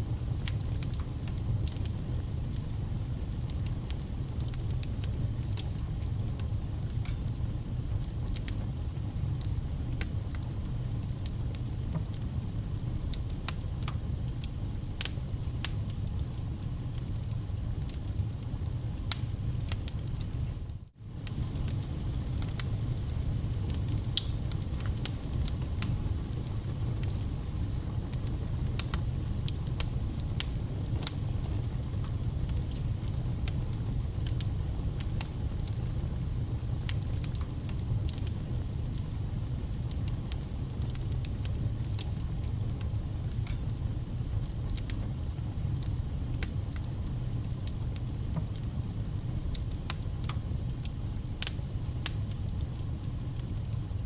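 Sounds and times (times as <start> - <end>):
low rumble of flames: 0.0 - 54.0
campfire crackling and popping: 0.3 - 20.4, 21.1 - 54.0.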